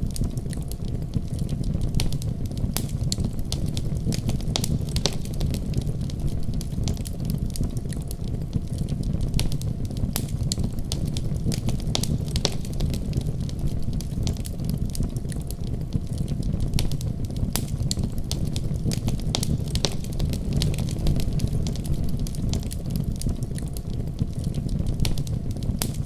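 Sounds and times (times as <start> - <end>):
fire crackling and popping: 0.0 - 26.0
fire flames rumbling: 0.0 - 26.0.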